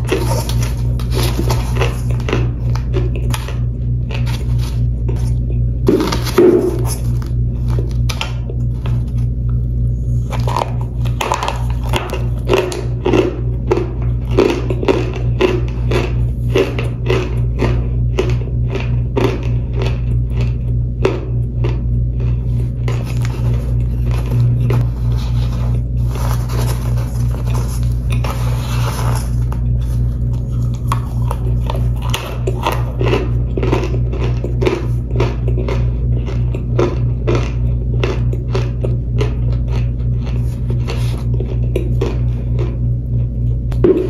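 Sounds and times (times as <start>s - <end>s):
crunching and chewing: 0.0s - 44.0s
low hum: 0.0s - 44.0s.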